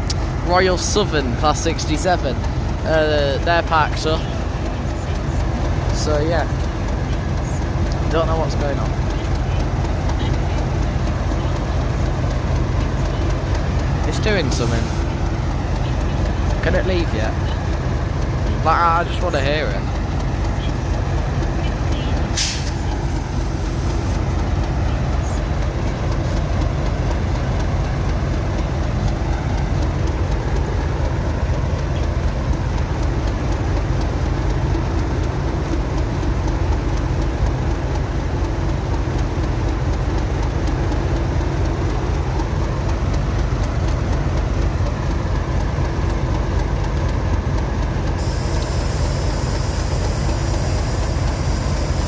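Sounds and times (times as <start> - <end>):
diesel locomotive engine idling: 0.0 - 52.0.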